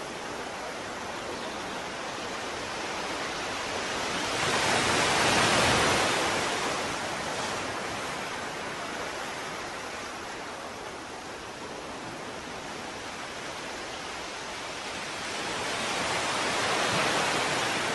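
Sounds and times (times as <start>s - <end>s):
ocean surf rushing: 2.2s - 17.9s.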